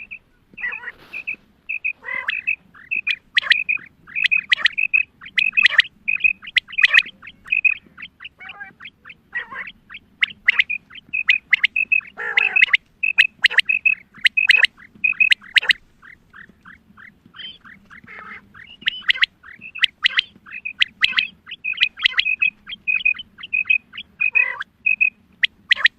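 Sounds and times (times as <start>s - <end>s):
quail calling: 0.0s - 25.9s.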